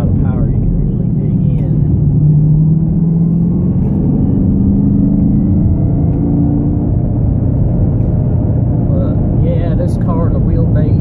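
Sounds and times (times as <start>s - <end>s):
car engine cruising: 0.0s - 11.0s
road rumble: 0.0s - 11.0s.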